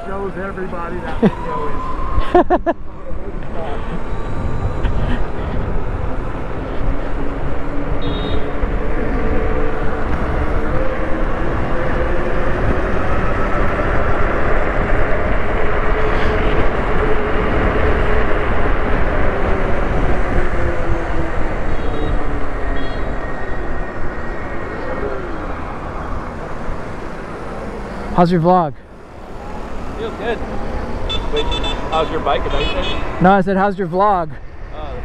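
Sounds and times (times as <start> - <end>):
wind rushing over microphone: 0.0 - 28.2
road noise: 0.0 - 35.0.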